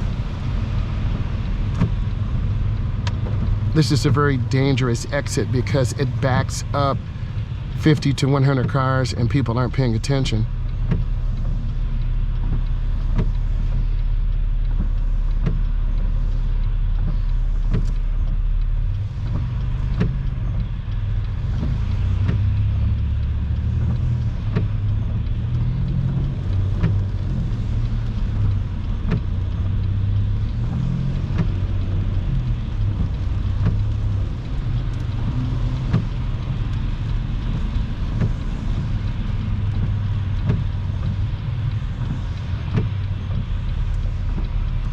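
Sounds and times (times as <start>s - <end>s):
tyre and engine rumble: 0.0s - 44.9s.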